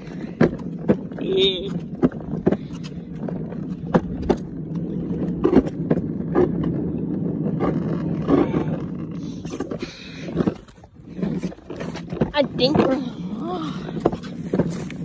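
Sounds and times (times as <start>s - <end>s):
toy car wheels rumbling on concrete: 0.0s - 15.0s.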